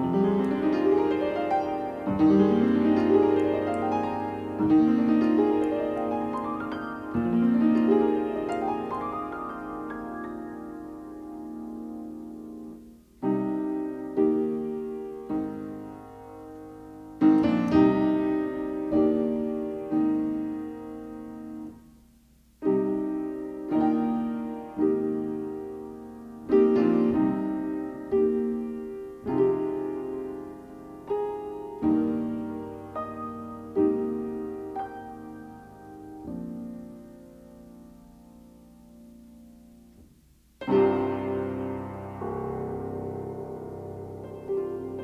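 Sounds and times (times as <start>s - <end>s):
slow piano music: 0.0s - 45.0s.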